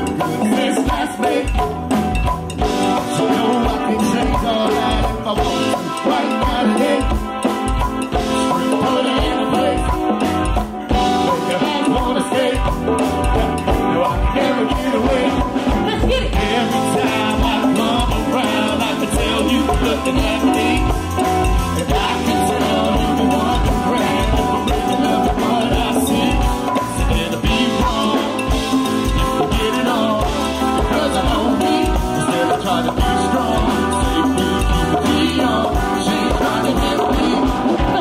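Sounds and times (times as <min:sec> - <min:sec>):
band playing live music: 0:00.0 - 0:38.0.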